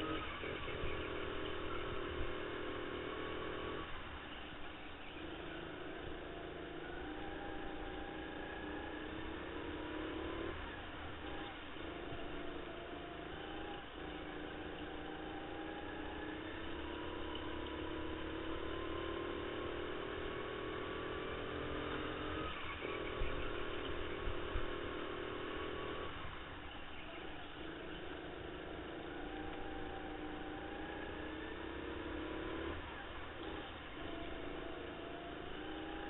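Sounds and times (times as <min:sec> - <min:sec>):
go-kart motor revving: 0:00.0 - 0:36.0.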